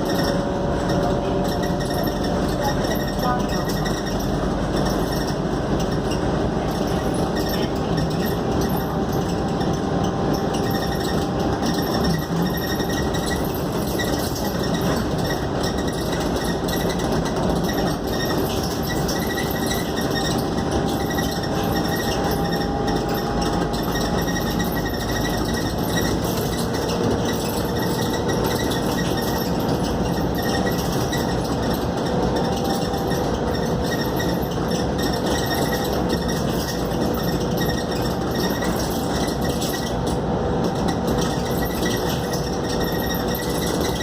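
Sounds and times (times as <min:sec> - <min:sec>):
bus engine and road noise: 0:00.0 - 0:44.0.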